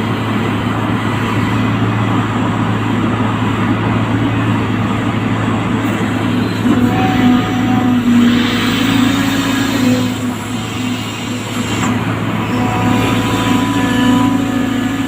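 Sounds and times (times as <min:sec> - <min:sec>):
constant low hum: 0:00.0 - 0:15.0
engine drone: 0:00.0 - 0:15.0.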